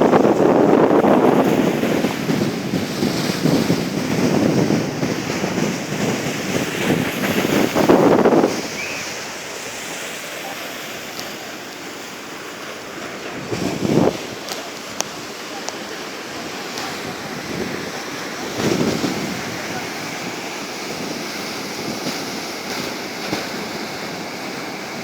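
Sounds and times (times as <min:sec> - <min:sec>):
sea surf washing ashore: 0:00.0 - 0:25.0
wind gusting on microphone: 0:00.0 - 0:25.0.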